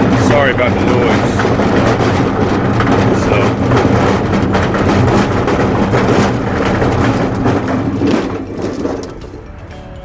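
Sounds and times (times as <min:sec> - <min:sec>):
road noise: 0:00.0 - 0:10.0
vehicle engine hum: 0:00.0 - 0:10.0.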